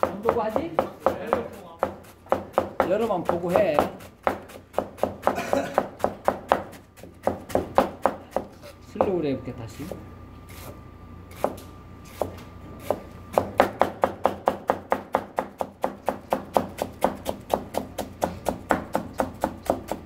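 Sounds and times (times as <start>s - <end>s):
knife chopping cabbage on board: 0.0s - 9.2s, 10.5s - 20.0s.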